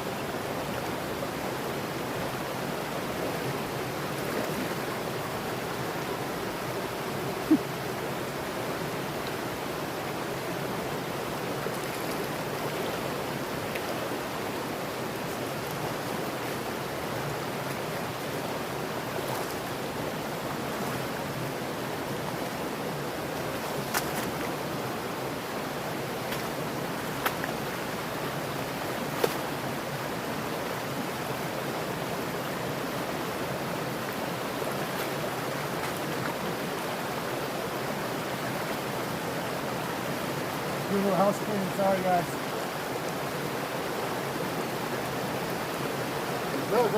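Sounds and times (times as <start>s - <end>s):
mountain stream flowing: 0.0s - 46.9s.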